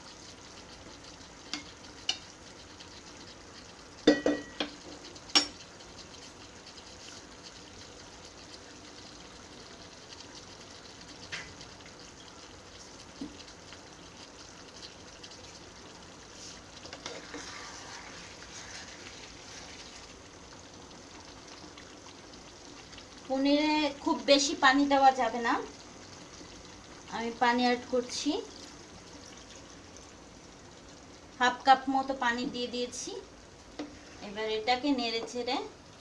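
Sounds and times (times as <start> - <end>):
gravy sizzling in a frying pan: 0.0 - 36.0.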